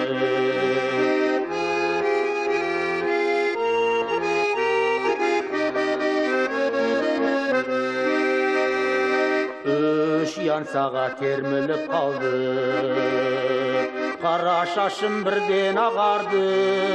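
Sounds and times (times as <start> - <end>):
accordion folk melody: 0.0 - 16.9.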